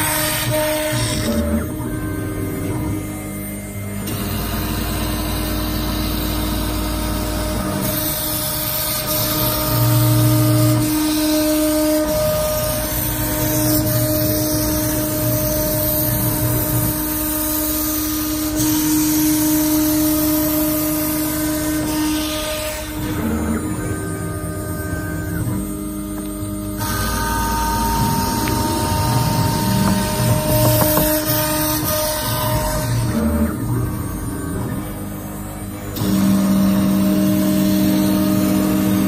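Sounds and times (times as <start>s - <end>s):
router spindle whine: 0.0s - 39.0s.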